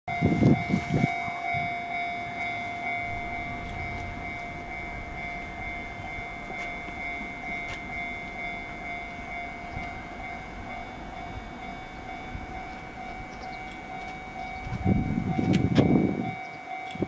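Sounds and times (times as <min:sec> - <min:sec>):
distant freight train rumble: 0:00.1 - 0:17.0
steady high-pitched tones: 0:00.1 - 0:17.0.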